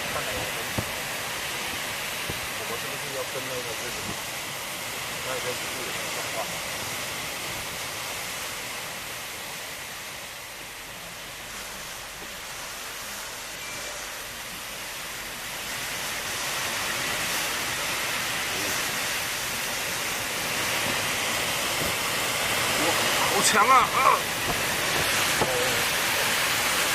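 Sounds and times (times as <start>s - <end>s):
heavy rain: 0.0s - 26.9s.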